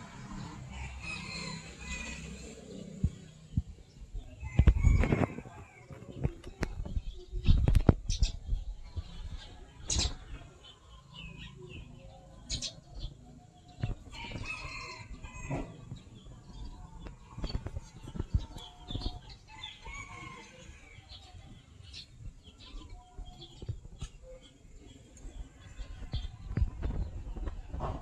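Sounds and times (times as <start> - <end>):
chickens clucking: 1.2 - 28.0.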